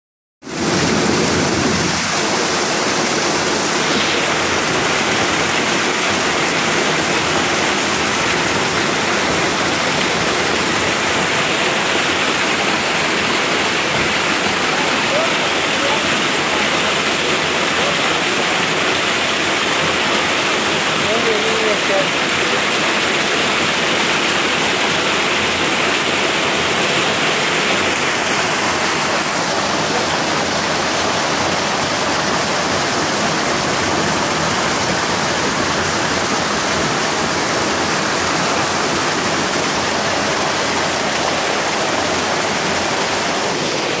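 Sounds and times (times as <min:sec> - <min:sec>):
water pouring into basin: 0:00.6 - 0:44.0.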